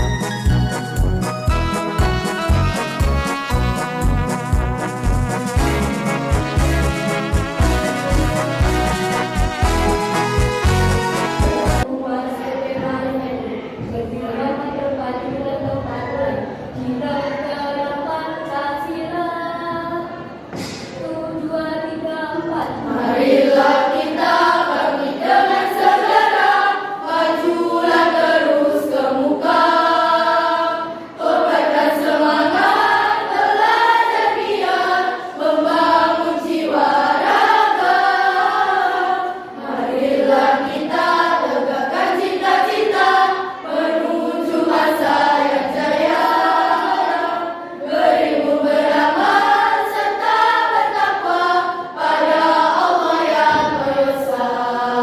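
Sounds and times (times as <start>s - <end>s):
school choir singing: 7.2s - 55.0s.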